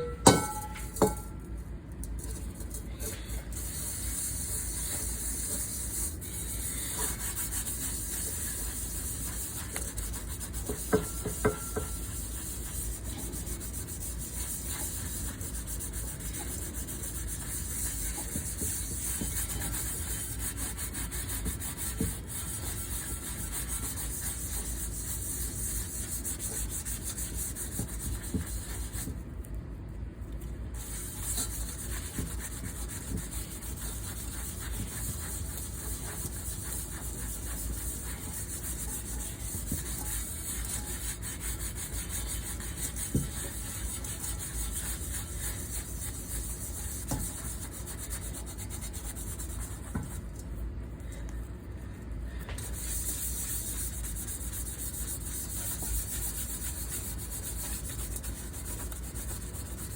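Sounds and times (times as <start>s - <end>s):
cookware being scrubbed: 0.0s - 1.4s, 2.2s - 29.2s, 30.8s - 50.4s, 52.6s - 59.9s.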